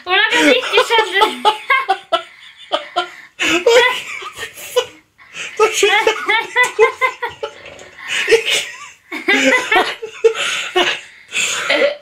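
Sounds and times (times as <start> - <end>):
hearty laughter: 0.6 - 5.0, 5.6 - 11.1.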